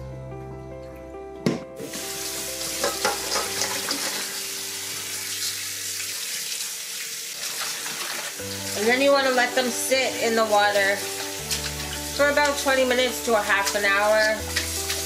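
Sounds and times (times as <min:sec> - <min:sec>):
tap water running into metal bowl: 0:01.8 - 0:15.0
water splashing: 0:02.7 - 0:15.0.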